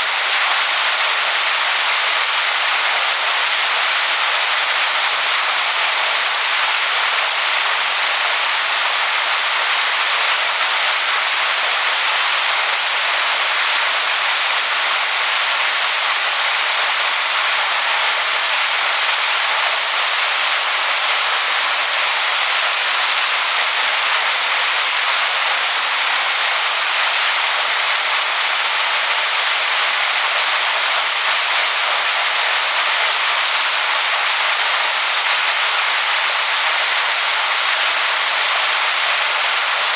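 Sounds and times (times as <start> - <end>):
waterfall pouring onto rocks: 0.0 - 39.9.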